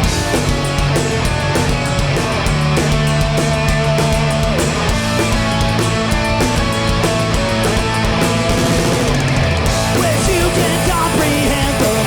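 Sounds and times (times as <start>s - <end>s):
punk band playing live: 0.0s - 12.0s.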